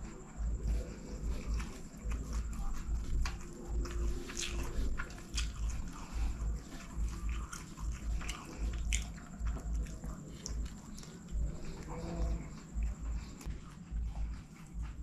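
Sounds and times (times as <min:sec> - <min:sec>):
wet chewing and lip smacking: 0:00.0 - 0:15.0.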